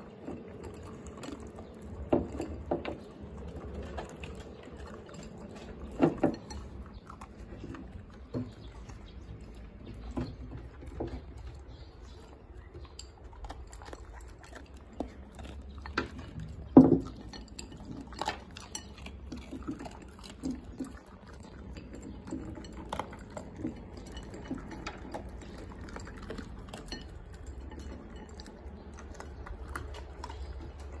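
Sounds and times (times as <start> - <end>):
dogs crunching kibble: 0.0 - 31.0.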